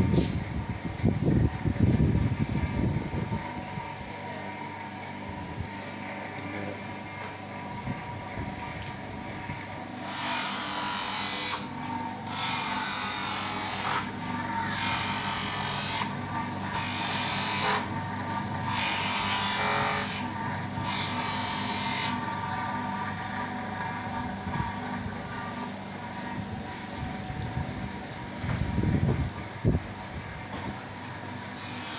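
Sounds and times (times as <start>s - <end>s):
motor humming: 0.0s - 31.9s.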